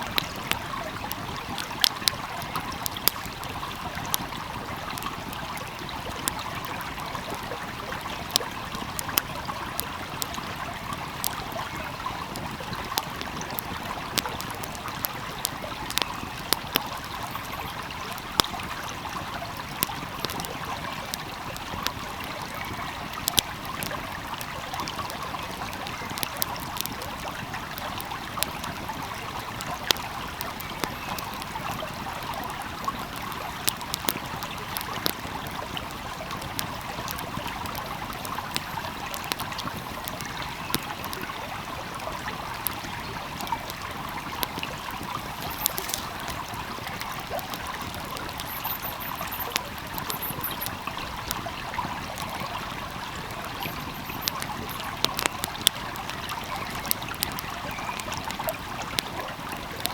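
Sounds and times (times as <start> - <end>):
small stream babbling: 0.0 - 59.9
wood fire crackling: 0.0 - 59.9.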